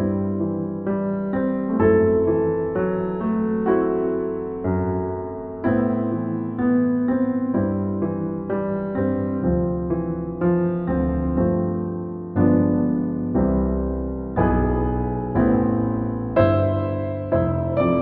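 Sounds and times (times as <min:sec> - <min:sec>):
slow solo piano music: 0:00.0 - 0:18.0.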